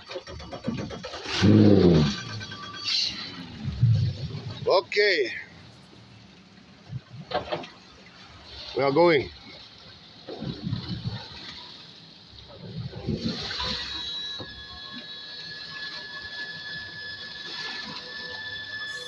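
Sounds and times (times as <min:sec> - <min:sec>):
outboard motors whining: 0:00.0 - 0:19.0
water rushing past boat hull: 0:00.0 - 0:19.0.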